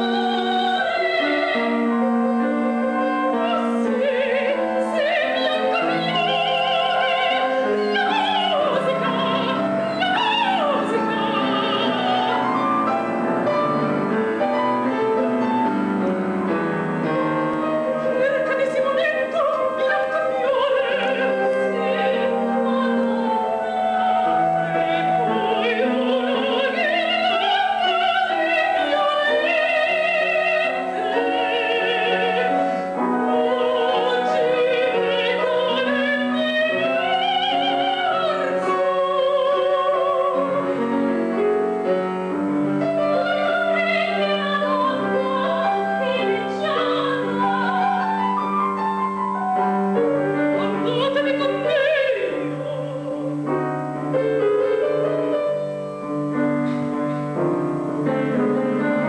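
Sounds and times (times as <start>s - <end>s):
women singing operatically: 0.0s - 14.0s, 17.0s - 41.5s, 42.6s - 48.6s, 49.4s - 55.6s
piano: 0.0s - 59.0s.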